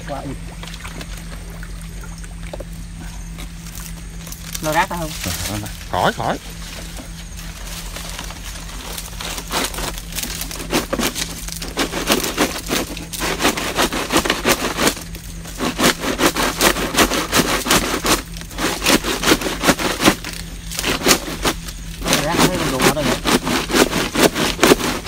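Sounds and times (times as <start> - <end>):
dry wood crackling and snapping: 2.3 - 25.0.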